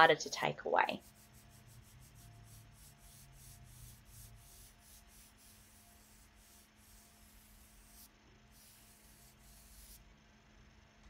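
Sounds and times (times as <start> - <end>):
faint steady hum: 0.0 - 11.0
fingertip rubbing pastel on paper: 1.0 - 10.0.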